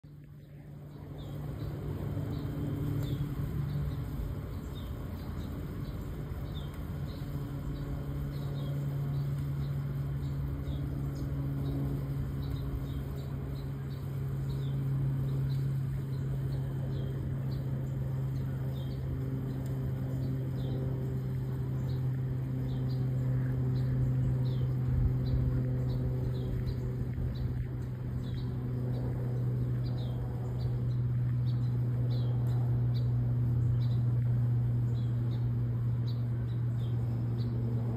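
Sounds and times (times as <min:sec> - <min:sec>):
turboprop plane droning: 0:00.0 - 0:37.9.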